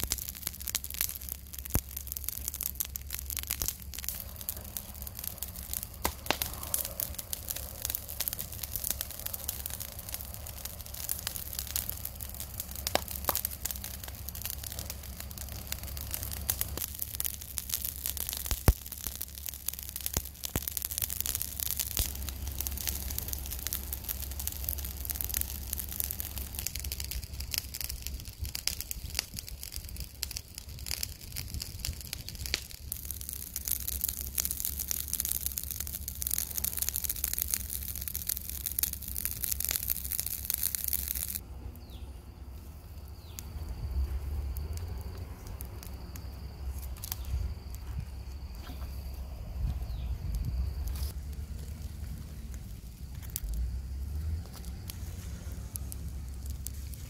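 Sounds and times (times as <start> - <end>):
charcoal fire crackling: 0.0 - 57.0
steady low rumble: 0.0 - 57.0.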